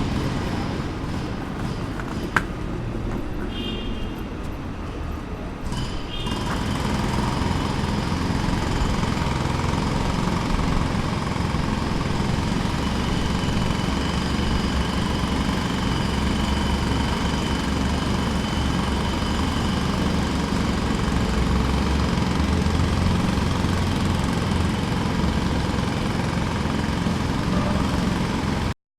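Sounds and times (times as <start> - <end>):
distant jackhammer rattling: 0.0 - 2.7, 5.6 - 28.8.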